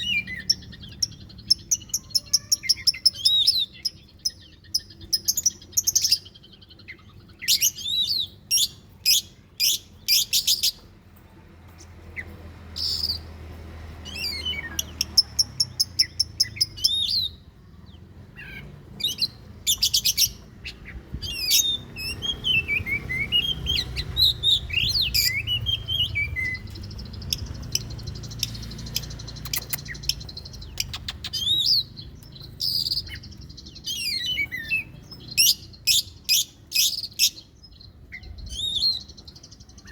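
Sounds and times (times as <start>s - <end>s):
bird singing with whistles and trills: 0.0s - 10.9s, 12.2s - 13.4s, 14.0s - 39.9s.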